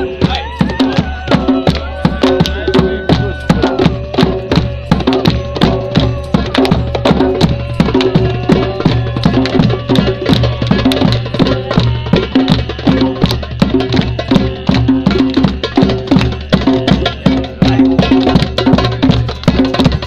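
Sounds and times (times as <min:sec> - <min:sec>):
fast drum beat: 0:00.0 - 0:20.0.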